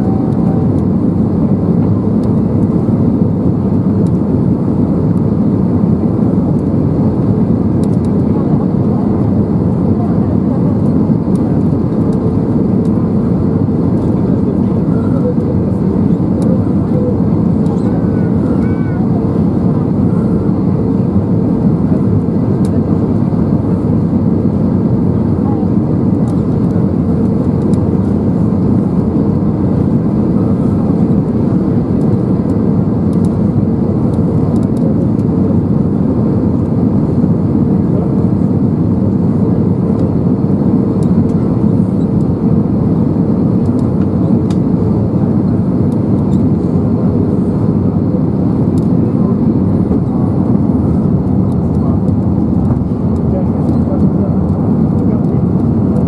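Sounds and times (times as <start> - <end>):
jet engines and airflow rushing: 0.0 - 56.0.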